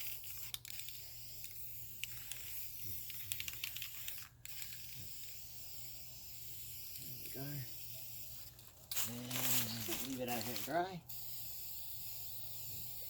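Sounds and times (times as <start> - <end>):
aerosol spray can hissing: 0.0 - 13.0.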